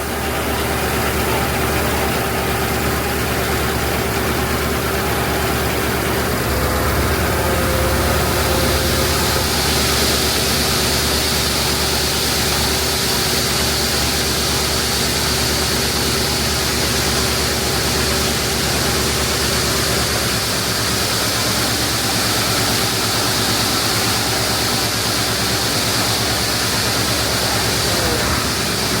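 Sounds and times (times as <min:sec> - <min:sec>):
constant mechanical hiss: 0:00.0 - 0:29.0
heavy diesel engine running: 0:00.0 - 0:29.0.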